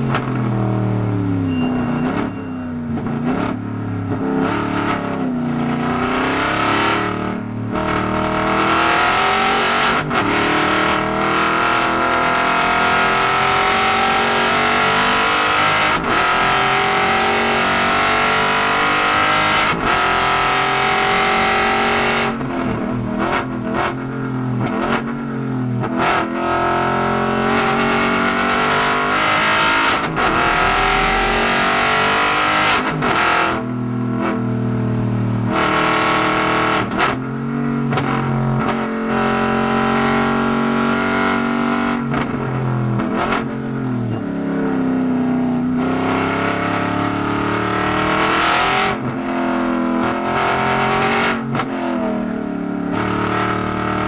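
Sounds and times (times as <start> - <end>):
race car engine revving: 0.0 - 43.8, 45.8 - 52.3, 52.9 - 54.0.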